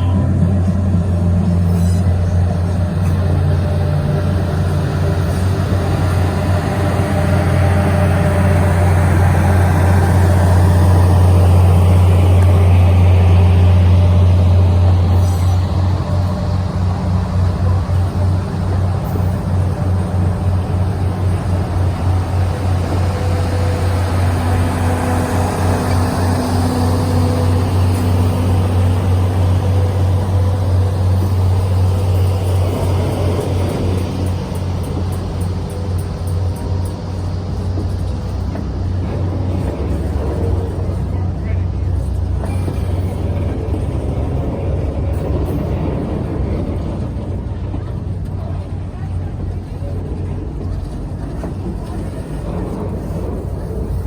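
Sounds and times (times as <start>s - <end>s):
train passing: 0.0s - 54.0s.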